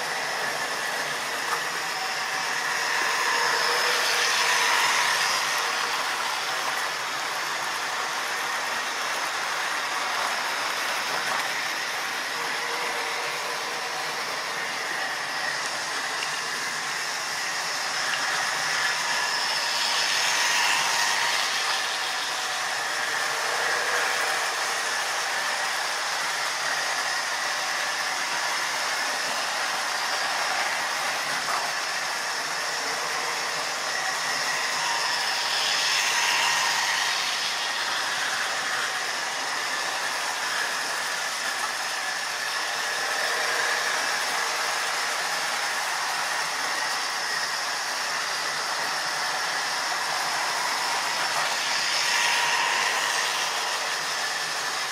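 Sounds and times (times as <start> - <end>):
model train motors whirring: 0.0 - 54.9.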